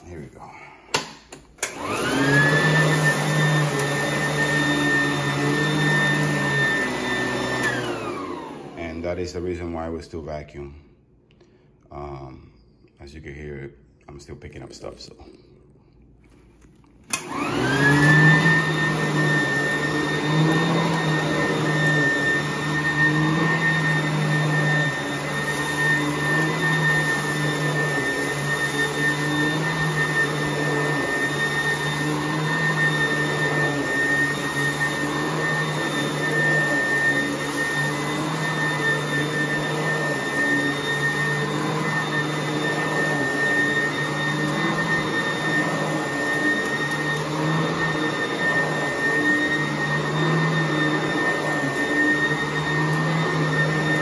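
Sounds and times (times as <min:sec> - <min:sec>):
vacuum cleaner motor whining: 0:01.4 - 0:09.5, 0:17.0 - 0:54.0.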